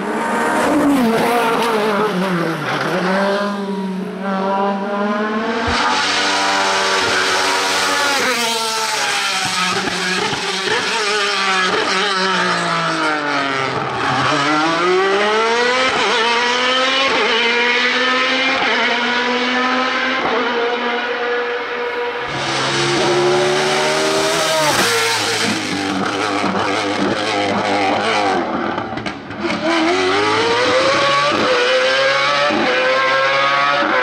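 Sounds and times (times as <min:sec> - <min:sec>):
racing car engine at full throttle: 0:00.0 - 0:34.0.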